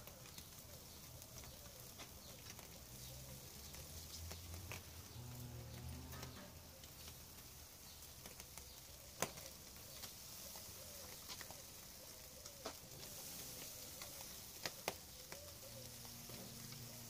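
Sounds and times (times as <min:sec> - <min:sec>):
charcoal grill crackling: 0:00.0 - 0:17.0.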